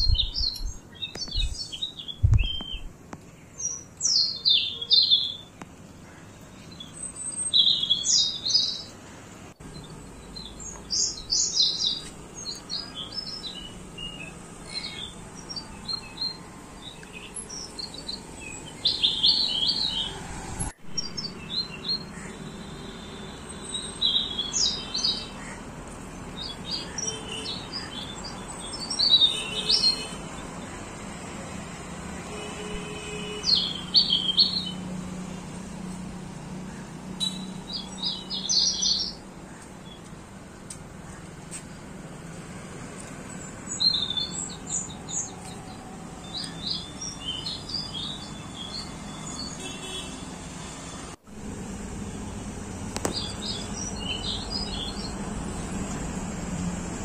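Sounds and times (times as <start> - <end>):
small birds chirping: 0.0 - 50.2, 52.8 - 56.2.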